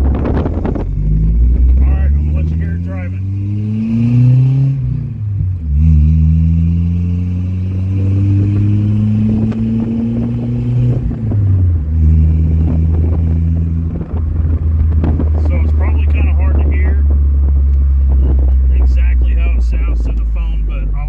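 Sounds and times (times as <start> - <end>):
engine accelerating through gears: 0.0 - 21.0.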